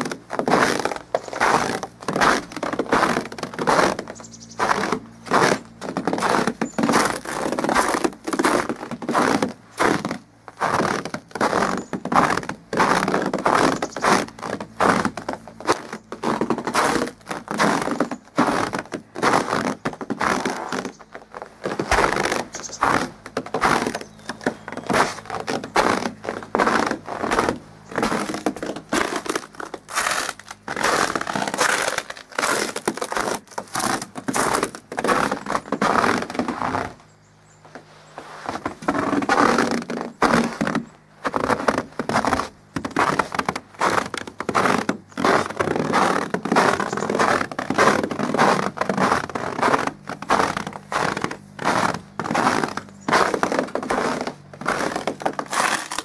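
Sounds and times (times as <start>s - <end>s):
footsteps crunching on frozen snow: 0.0s - 56.0s.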